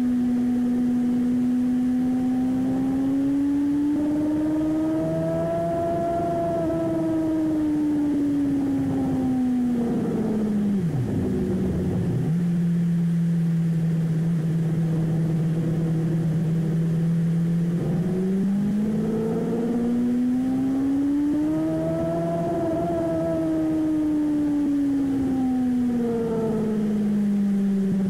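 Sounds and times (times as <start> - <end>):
motorcycle engine at speed: 0.0 - 28.0.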